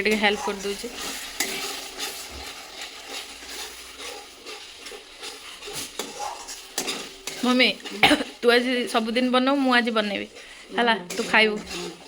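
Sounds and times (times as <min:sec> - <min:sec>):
food sizzling in a frying pan: 0:00.0 - 0:12.0
stirring utensil knocks: 0:00.0 - 0:12.0.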